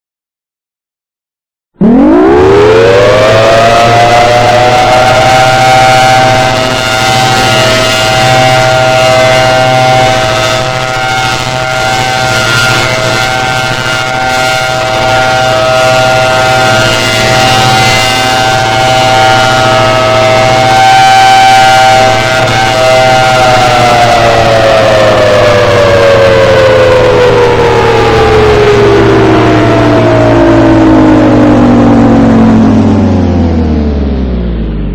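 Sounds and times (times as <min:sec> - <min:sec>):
low hum: 0:01.8 - 0:34.9
siren wailing: 0:01.8 - 0:34.9.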